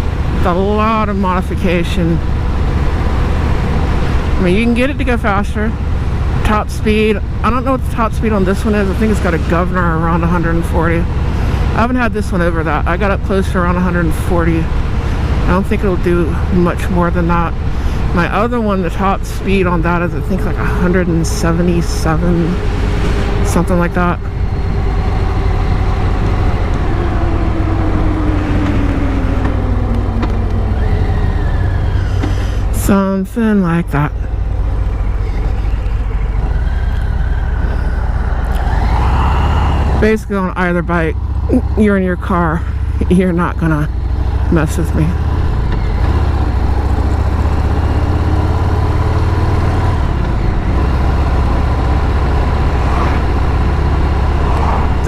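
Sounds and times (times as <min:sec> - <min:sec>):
wind rumble on microphone: 0:00.0 - 0:41.8, 0:42.6 - 0:55.0
motorcycle engine: 0:00.0 - 0:55.0.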